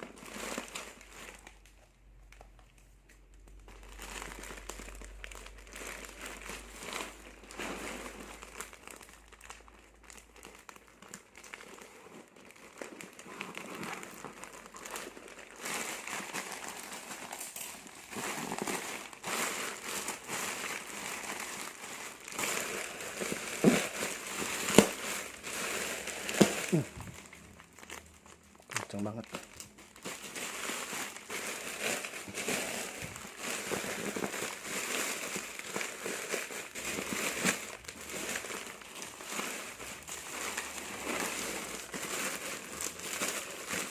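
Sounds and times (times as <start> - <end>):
plastic wrapping crinkling: 0.0 - 43.9.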